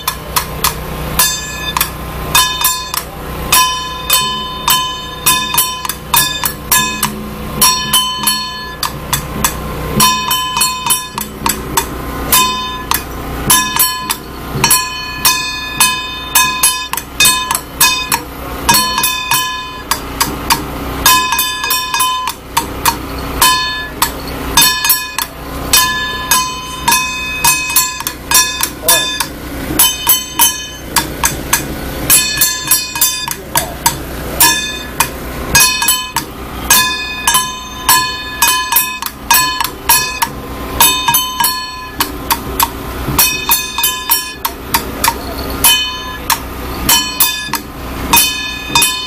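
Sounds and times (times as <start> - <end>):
hand gong struck rapidly: 0.0 - 49.0.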